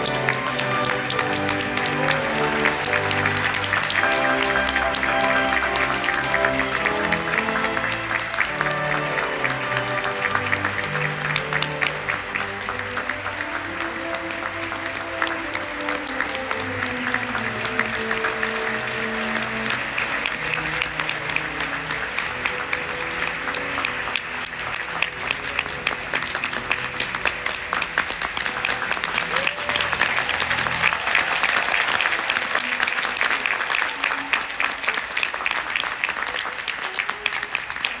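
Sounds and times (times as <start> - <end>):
music playing: 0.0 - 33.6
audience applauding: 0.0 - 38.0.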